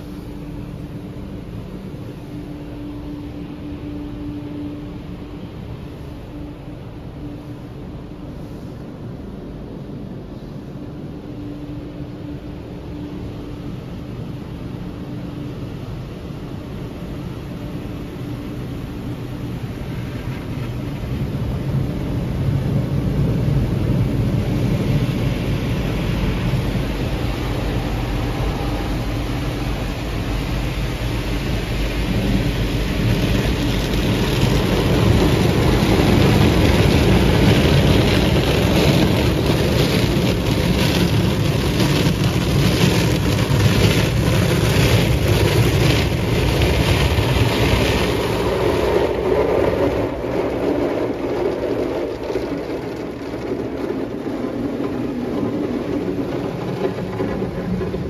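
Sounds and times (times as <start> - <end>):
car wash water spraying on car: 0.0 - 58.0.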